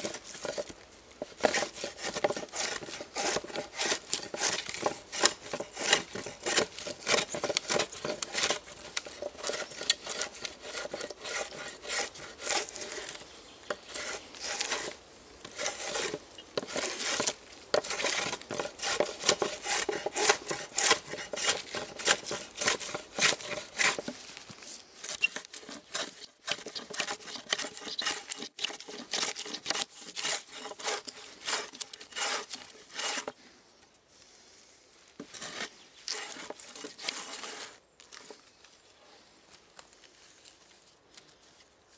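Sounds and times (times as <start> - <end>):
hand plane shaving wood: 0.0 - 24.2, 25.0 - 33.4, 35.3 - 37.8.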